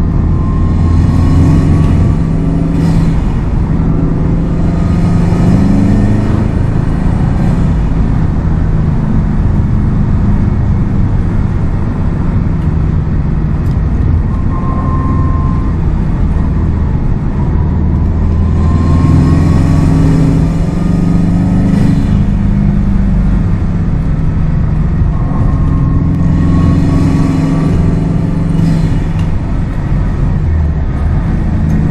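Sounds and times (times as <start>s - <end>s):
car engine and exhaust revving: 0.0s - 31.9s
road and tyre noise: 0.0s - 31.9s.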